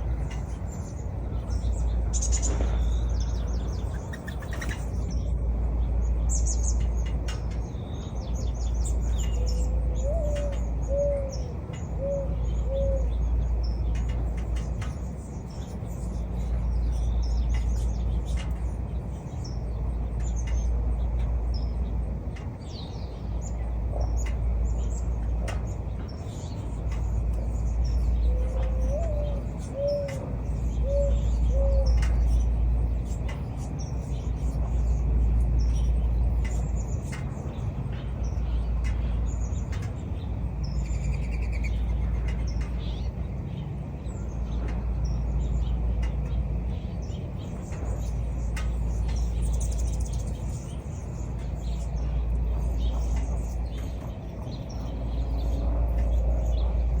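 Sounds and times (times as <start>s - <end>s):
low bird calls: 0.0s - 57.0s
small birds chirping: 0.0s - 57.0s
steady low rumble: 0.0s - 57.0s.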